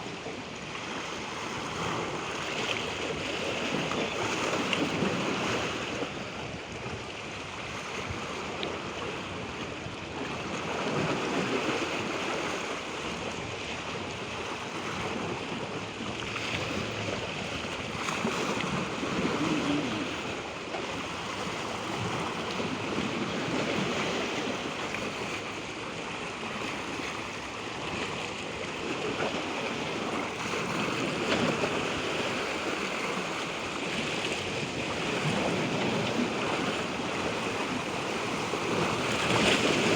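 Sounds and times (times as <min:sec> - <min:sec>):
waves washing in: 0:00.0 - 0:39.9.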